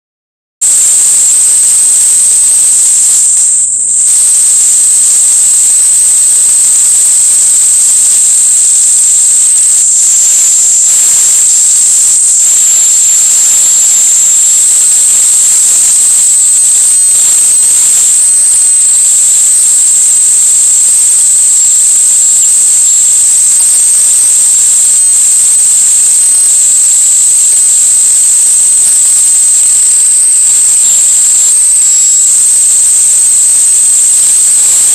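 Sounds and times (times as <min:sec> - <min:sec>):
high-pitched whine: 0:00.6 - 0:34.9
loud steady hiss: 0:00.6 - 0:34.9.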